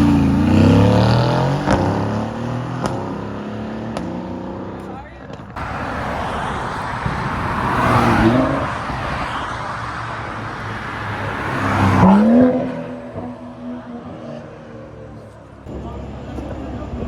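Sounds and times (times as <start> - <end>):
car engines accelerating past: 0.0 - 15.7.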